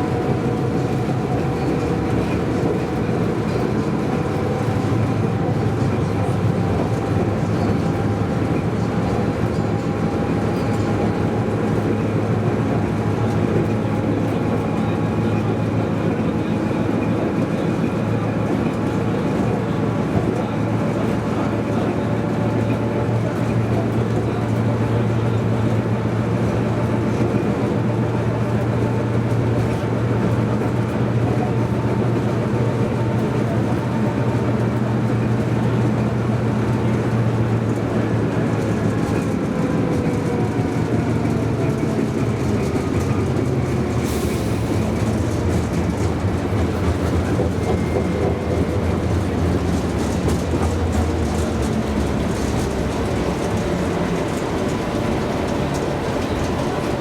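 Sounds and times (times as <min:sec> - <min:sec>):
tram running on rails: 0:00.0 - 0:57.0.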